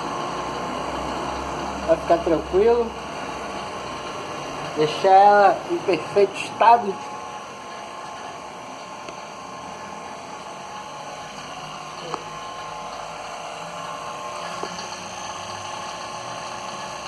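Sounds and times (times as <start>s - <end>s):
vacuum pump humming: 0.0s - 17.0s.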